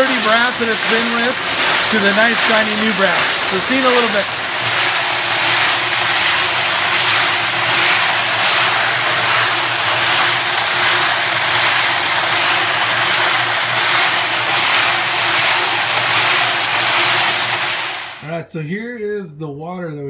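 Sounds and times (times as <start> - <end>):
metal cases rattling in tumbling drum: 0.0 - 18.0
low motor hum: 0.0 - 18.2.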